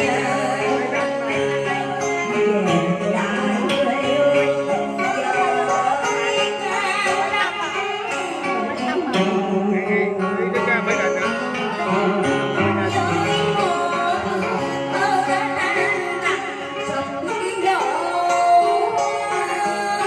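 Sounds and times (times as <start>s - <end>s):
song accompaniment music: 0.0s - 20.0s.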